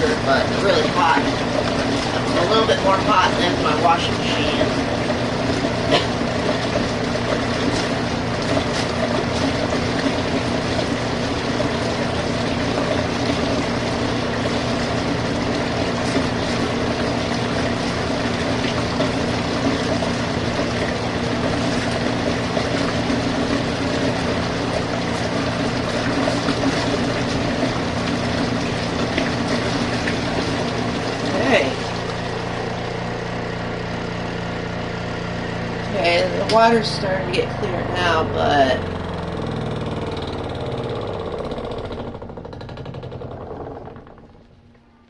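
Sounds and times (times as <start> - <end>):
washing machine motor humming: 0.0 - 45.0
water churning in tub: 0.0 - 45.0.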